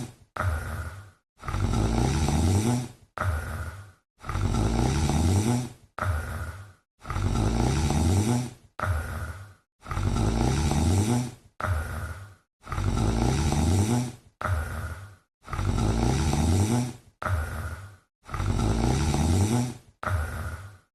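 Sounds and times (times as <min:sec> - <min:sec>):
cat snoring: 0:00.0 - 0:20.9.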